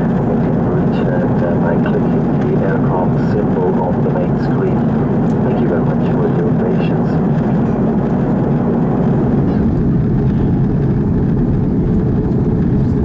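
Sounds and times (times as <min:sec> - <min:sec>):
airplane cabin airflow and engine drone: 0:00.0 - 0:13.0.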